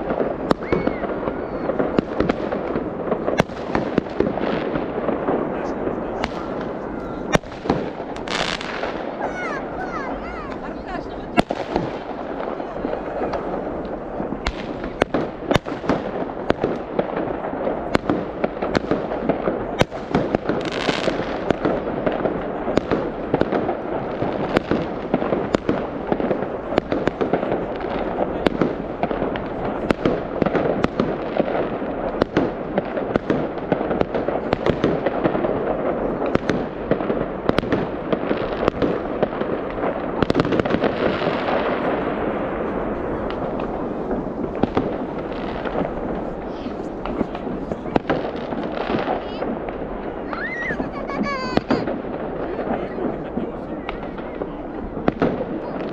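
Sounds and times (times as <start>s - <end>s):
fireworks bangs: 0.0s - 55.9s
fireworks crackling and popping: 0.0s - 55.9s.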